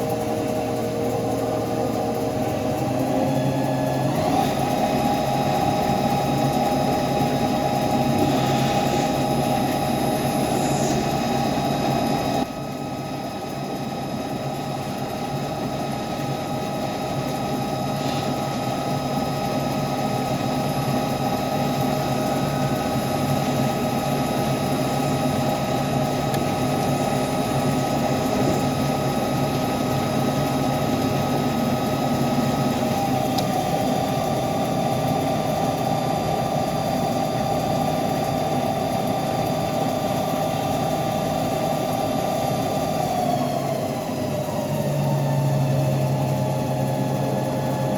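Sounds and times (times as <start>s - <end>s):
lathe machine hum: 0.0s - 47.9s.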